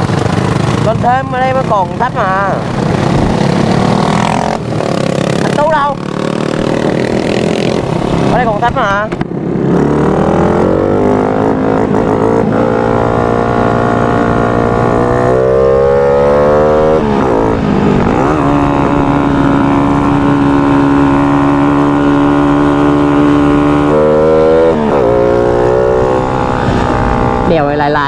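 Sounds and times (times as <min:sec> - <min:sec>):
motorcycle engine under load: 0:00.0 - 0:28.0.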